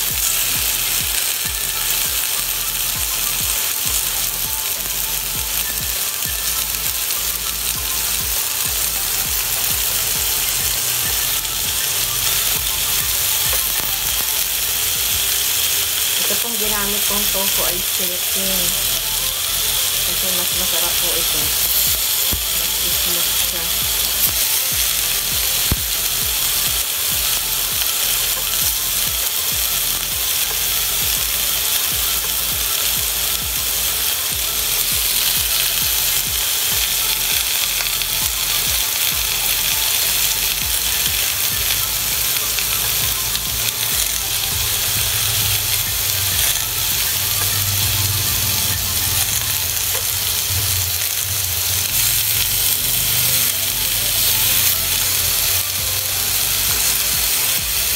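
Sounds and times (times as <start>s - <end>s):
food sizzling in oil: 0.0s - 57.9s.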